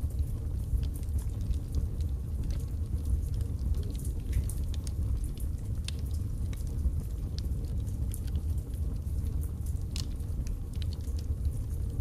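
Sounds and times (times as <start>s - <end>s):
logs crackling and popping: 0.0s - 12.0s
low rumble of flames: 0.0s - 12.0s.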